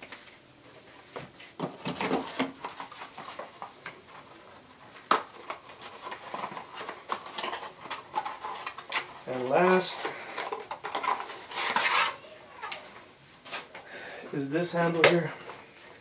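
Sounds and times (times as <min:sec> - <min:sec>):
plastic wrap and cardboard rustling: 0:00.0 - 0:16.0.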